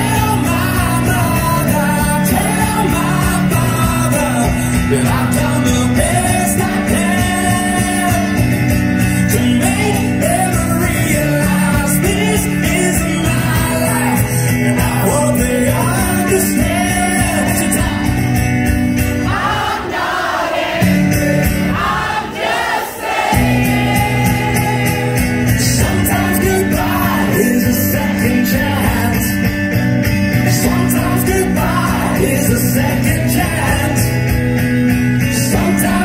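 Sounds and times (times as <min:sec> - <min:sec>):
man singing: 0:00.0 - 0:18.5, 0:23.9 - 0:29.6, 0:30.3 - 0:36.0
strummed acoustic guitar: 0:00.0 - 0:19.9, 0:23.3 - 0:36.0.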